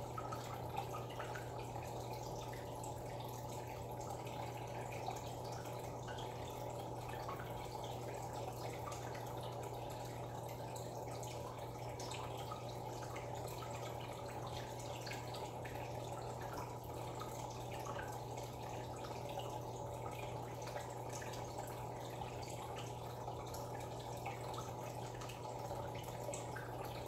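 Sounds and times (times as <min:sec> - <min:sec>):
drip-like ticks: 0:00.0 - 0:27.0.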